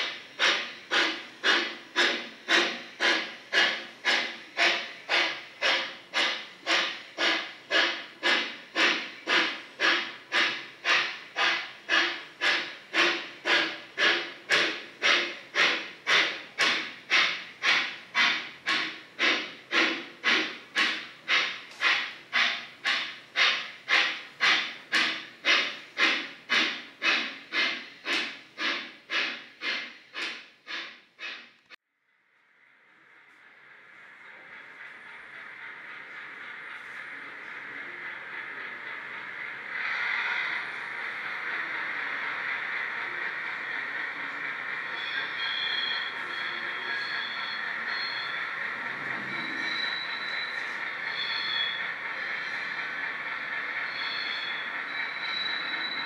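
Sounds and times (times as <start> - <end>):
model steam locomotive chuffing: 0.0 - 31.8, 32.7 - 56.0.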